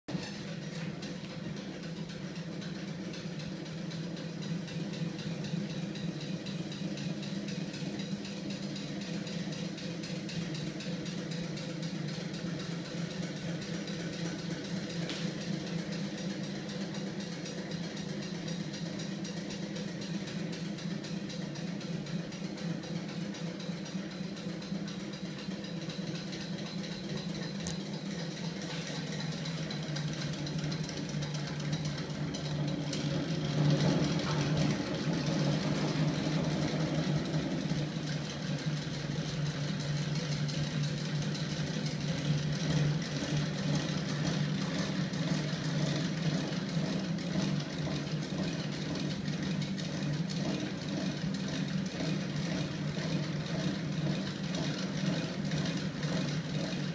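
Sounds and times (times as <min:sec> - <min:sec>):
flywheel machine humming: 0:00.1 - 0:56.9.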